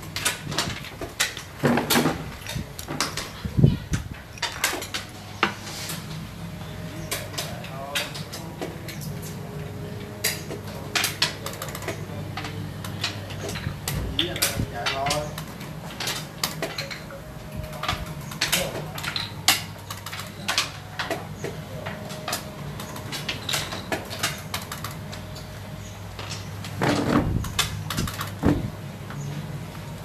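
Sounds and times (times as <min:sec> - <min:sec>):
steady low hum: 0:02.2 - 0:30.0.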